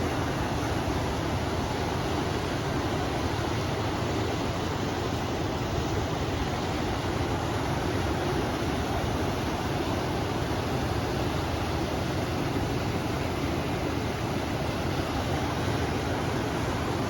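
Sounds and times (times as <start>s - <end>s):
river water rushing: 0.0s - 17.0s
wind: 0.0s - 17.0s.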